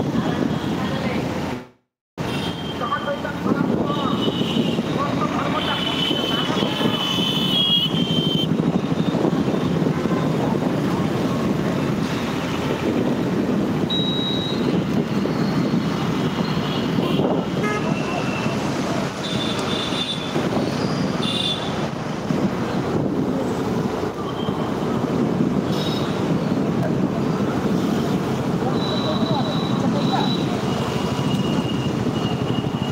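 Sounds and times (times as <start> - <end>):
wind and road rumble: 0.0 - 32.9.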